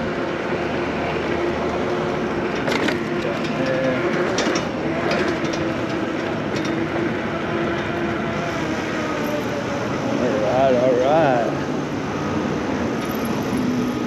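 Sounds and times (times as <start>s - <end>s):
wind and tyre noise: 0.0s - 14.0s.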